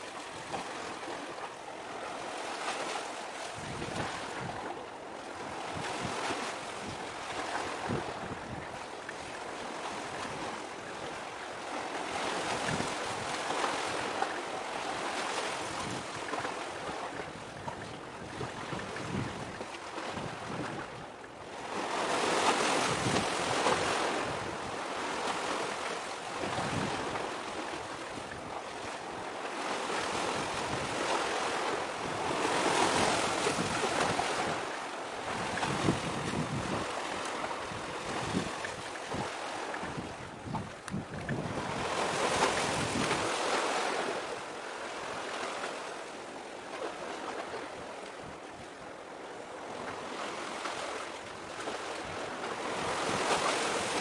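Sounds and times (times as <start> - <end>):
sea waves washing in: 0.0 - 54.0
wind: 0.0 - 54.0.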